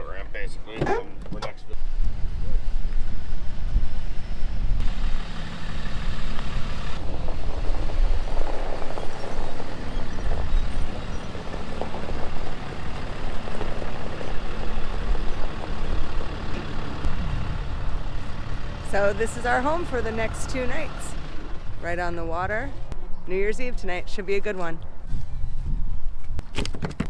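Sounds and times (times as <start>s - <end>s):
diesel truck engine rumbling: 0.0s - 25.8s.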